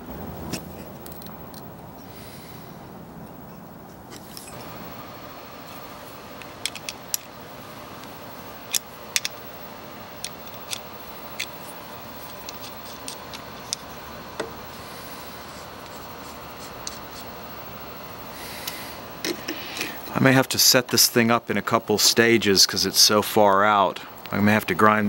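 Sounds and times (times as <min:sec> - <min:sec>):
low background noise: 0:00.0 - 0:25.0.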